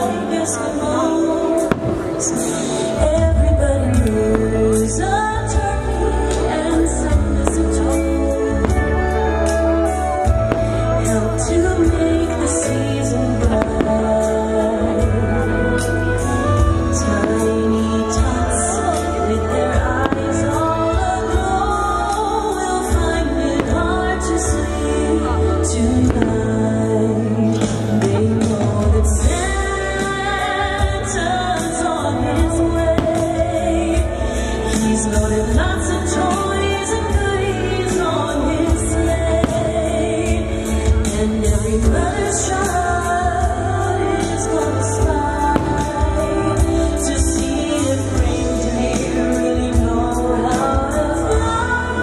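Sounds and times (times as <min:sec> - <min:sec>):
singing over instrumental music: 0:00.0 - 0:52.0.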